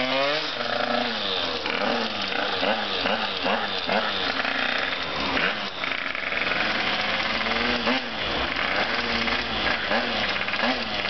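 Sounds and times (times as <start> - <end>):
small motorbike engine revving: 0.0 - 11.0.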